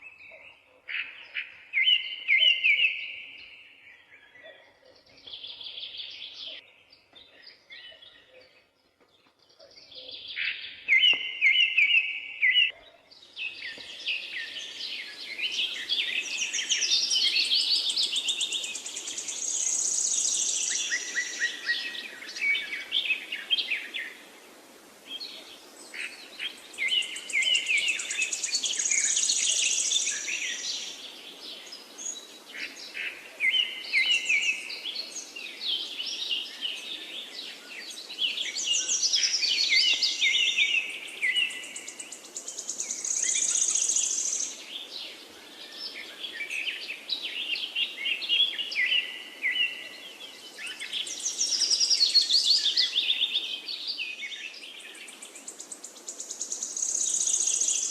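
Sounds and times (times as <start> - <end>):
songbirds singing: 0.0 - 57.9
background hiss: 10.1 - 57.9.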